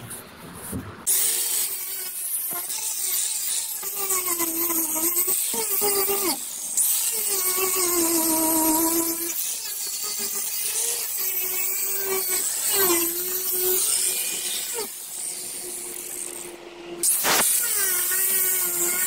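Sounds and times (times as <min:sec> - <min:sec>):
power grinder grinding: 0:01.1 - 0:19.0.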